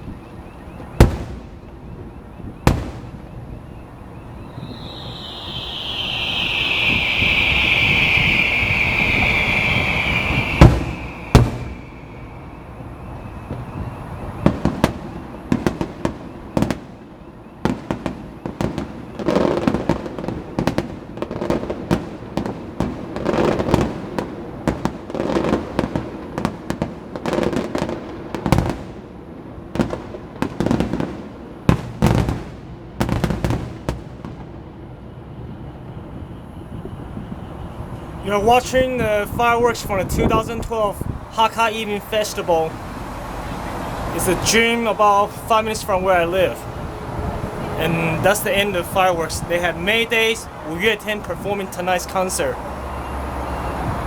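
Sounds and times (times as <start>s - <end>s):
fireworks bangs and pops: 0.0s - 34.8s, 43.4s - 52.4s
firework whistle: 0.0s - 54.0s.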